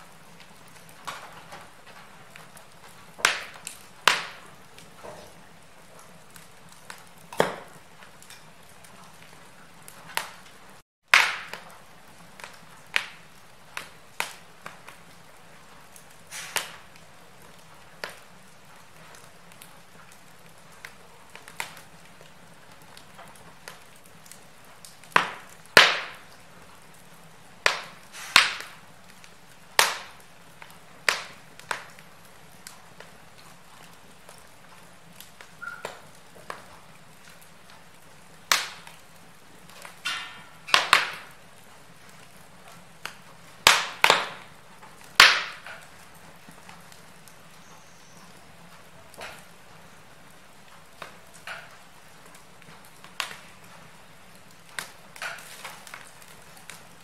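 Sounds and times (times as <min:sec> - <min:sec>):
faint steady hiss: 0:00.0 - 0:57.0
wood fire crackling: 0:00.0 - 0:57.0.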